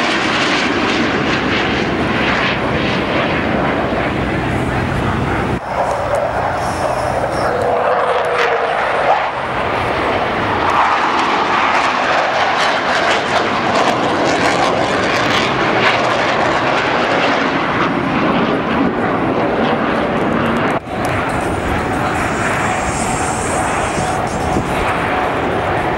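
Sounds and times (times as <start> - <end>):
jet flying past: 0.0 - 25.9.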